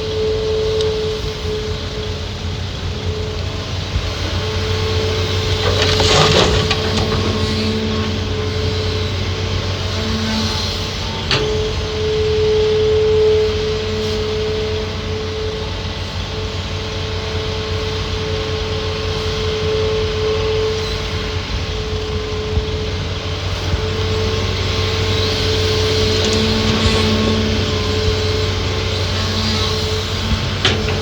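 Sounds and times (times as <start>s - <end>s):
excavator diesel engine running: 0.0s - 31.0s
steady whine: 0.0s - 31.0s.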